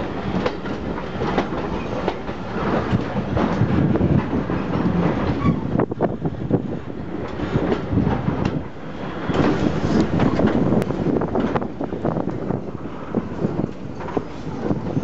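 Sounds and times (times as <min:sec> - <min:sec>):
wheels clicking over rail joints: 0:00.0 - 0:05.9, 0:07.0 - 0:15.0
train rumbling along track: 0:00.0 - 0:15.0.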